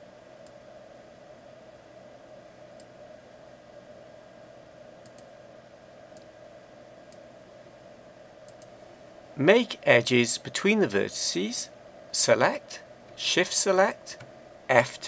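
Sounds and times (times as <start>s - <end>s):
room noise hiss: 0.0s - 15.0s.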